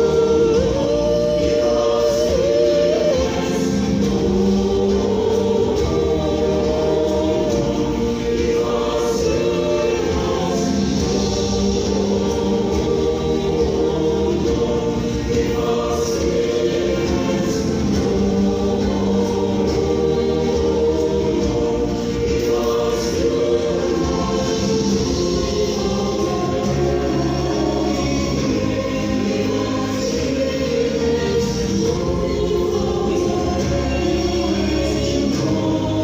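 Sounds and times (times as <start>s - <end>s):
choir singing sustained chords: 0.0s - 36.0s.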